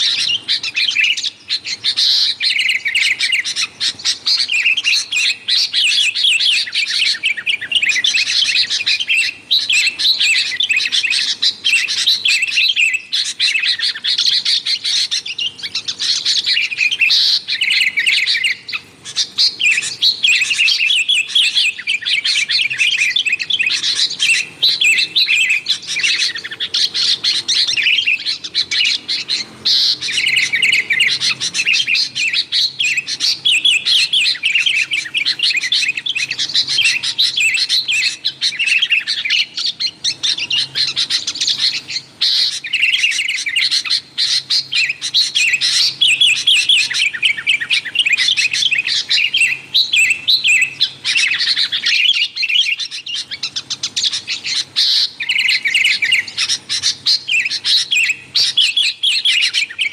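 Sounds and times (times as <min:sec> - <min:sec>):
bulbuls chirping: 0:00.0 - 0:59.9.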